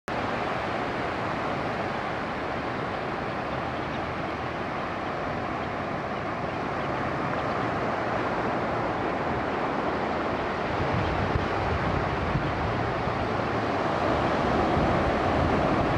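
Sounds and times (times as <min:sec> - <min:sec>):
small waves breaking on beach: 0:00.1 - 0:15.9.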